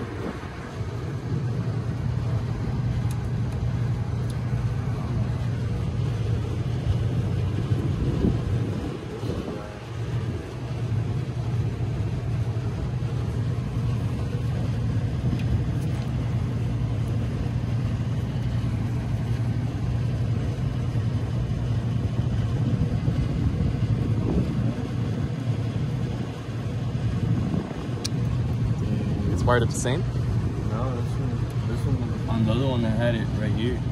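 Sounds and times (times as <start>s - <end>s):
hvac equipment humming: 0.0s - 33.9s.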